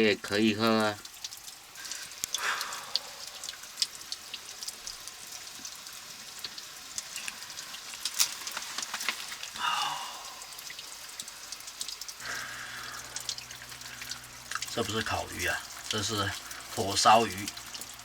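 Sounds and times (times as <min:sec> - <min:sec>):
wood fire crackling: 0:00.0 - 0:18.0
fire hissing: 0:01.8 - 0:17.5.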